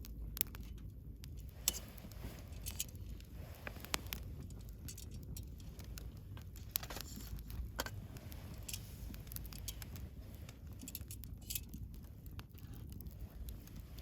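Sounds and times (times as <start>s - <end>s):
bonfire pops and snaps: 0.0s - 14.0s
low rumble of burning fire: 0.0s - 14.0s.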